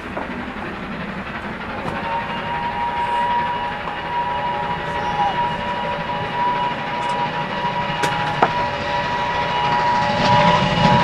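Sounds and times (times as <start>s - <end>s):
locomotive rumble: 0.0s - 11.0s
steam locomotive whistle: 1.6s - 11.0s.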